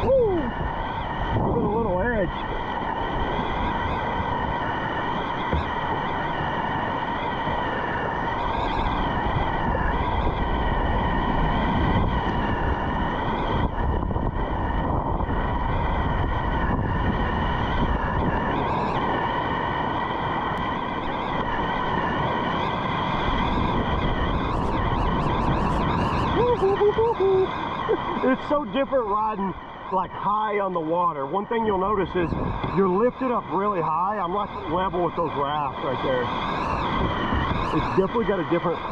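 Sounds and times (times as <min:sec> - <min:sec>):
faint wavering whine: 0:00.0 - 0:38.9.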